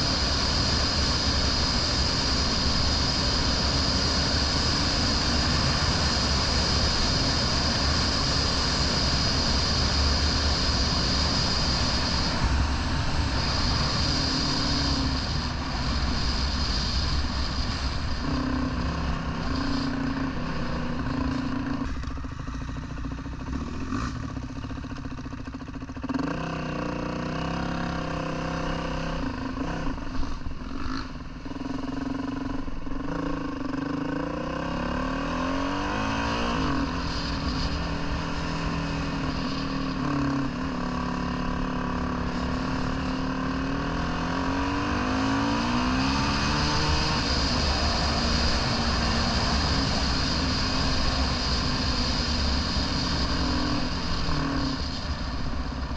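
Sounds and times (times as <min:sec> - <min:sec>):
dirt bike engine revving: 0:00.0 - 0:24.8, 0:30.7 - 0:55.9.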